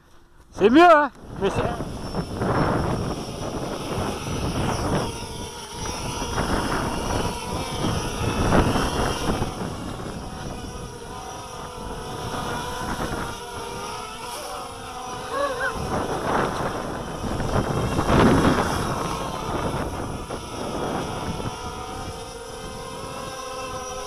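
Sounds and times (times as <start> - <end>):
drone motors buzzing: 0.0 - 24.0.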